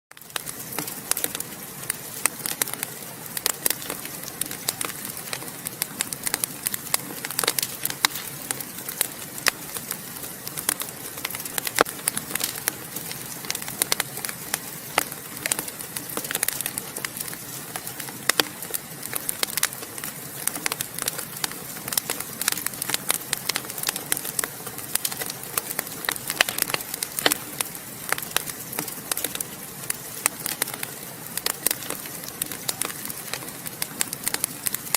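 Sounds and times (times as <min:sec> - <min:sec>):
wood fire crackling: 0:00.1 - 0:34.9
soft hiss of fire: 0:00.2 - 0:34.9.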